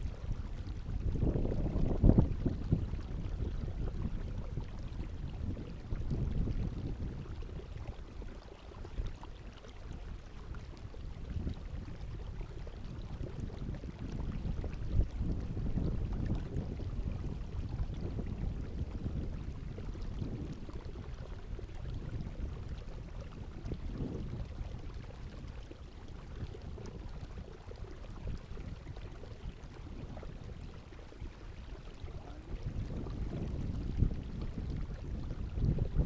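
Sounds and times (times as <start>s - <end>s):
water splashing from kayak: 0.0s - 36.0s
wind rumble on microphone: 0.0s - 36.0s.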